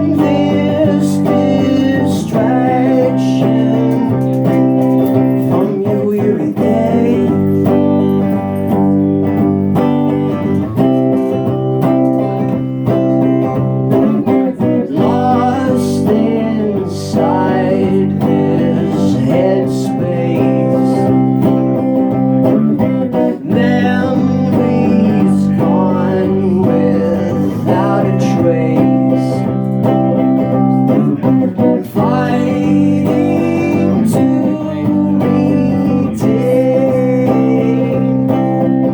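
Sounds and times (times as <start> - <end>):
live guitar music: 0.0 - 38.9.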